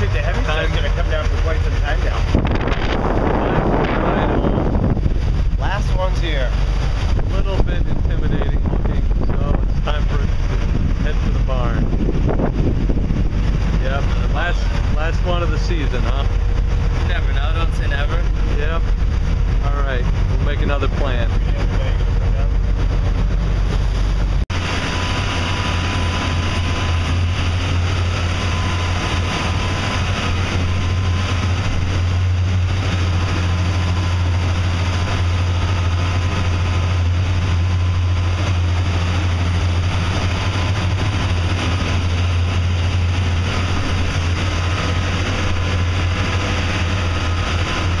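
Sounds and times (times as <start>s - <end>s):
boat engines droning: 0.0s - 48.0s
water rushing: 0.0s - 48.0s.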